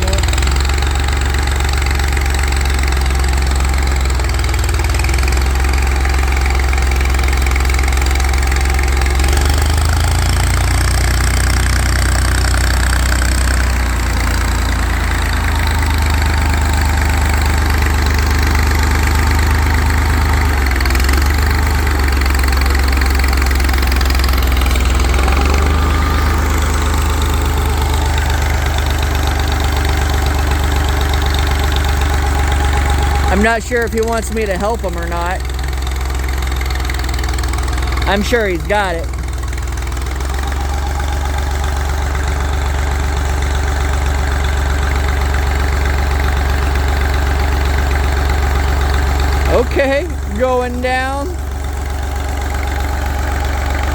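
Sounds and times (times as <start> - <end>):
tractor engine idling: 0.0 - 53.9.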